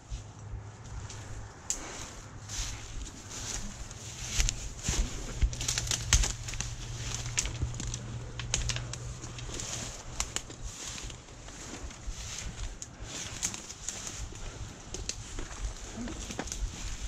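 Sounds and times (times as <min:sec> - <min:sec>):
branches rustling against clothing: 0:00.0 - 0:17.0
footsteps through dry leaves: 0:00.0 - 0:17.0
twigs snapping: 0:00.9 - 0:17.0.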